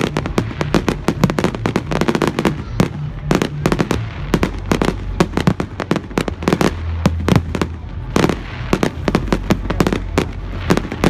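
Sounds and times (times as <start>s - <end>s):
fireworks bangs and cracks: 0.0s - 11.0s
steady low rumble: 0.0s - 11.0s.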